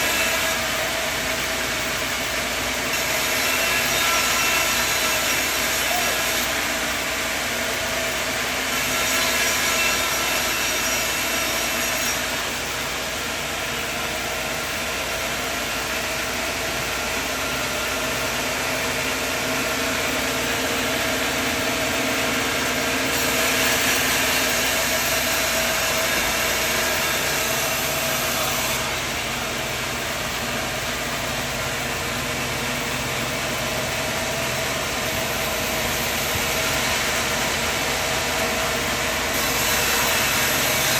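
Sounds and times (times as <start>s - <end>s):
sawmill engine and saw droning: 0.0s - 40.9s.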